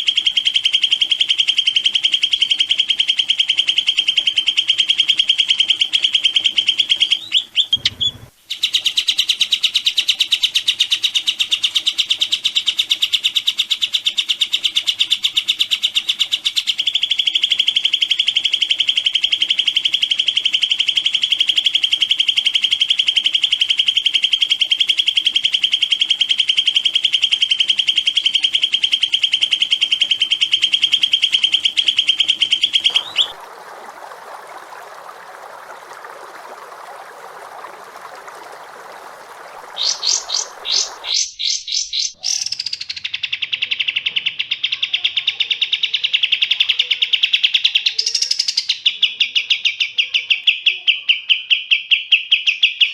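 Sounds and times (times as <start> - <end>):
songbird rapid trill: 0.0 - 33.4, 37.9 - 52.9.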